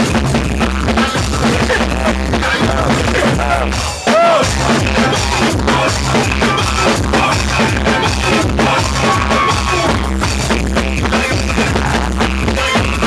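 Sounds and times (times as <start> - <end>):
loud dance music with heavy bass: 0.0 - 13.0.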